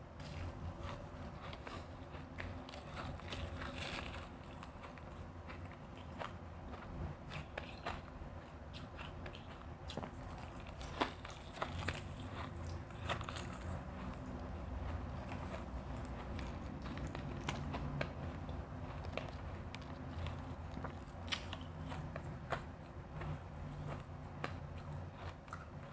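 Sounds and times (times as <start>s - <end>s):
low chewing rumble: 0.0s - 25.9s.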